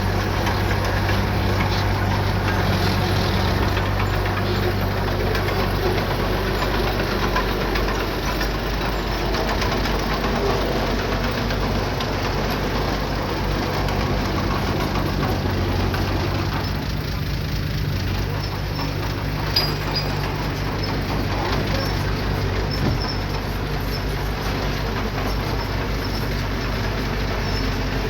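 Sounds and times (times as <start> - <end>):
diesel engine knocking rumble: 0.0 - 28.0.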